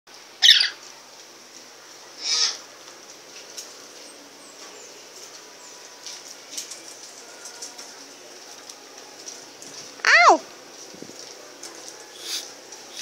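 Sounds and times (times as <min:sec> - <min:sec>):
lories calling: 0:00.4 - 0:00.9, 0:01.8 - 0:02.9, 0:03.6 - 0:13.0.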